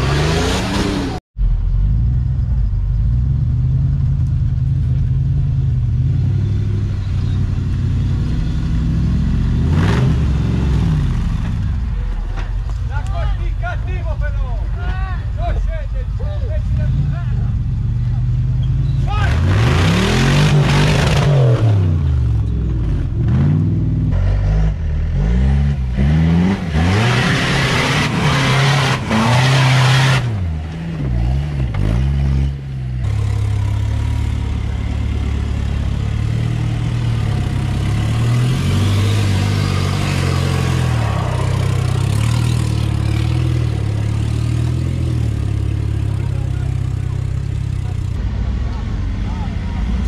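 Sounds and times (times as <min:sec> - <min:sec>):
off-road engine revving: 0:00.0 - 0:14.6, 0:15.4 - 0:50.0.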